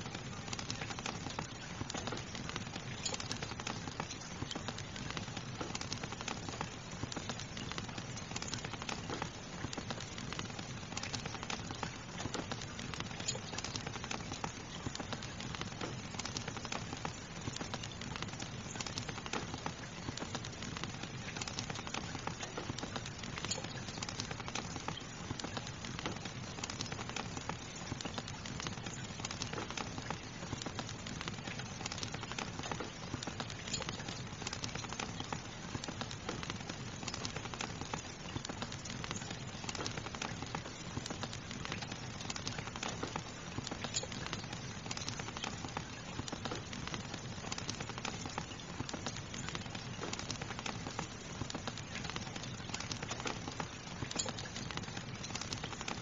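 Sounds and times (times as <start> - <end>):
fire crackling and popping: 0.0 - 56.0
steady rain hiss: 0.0 - 56.0.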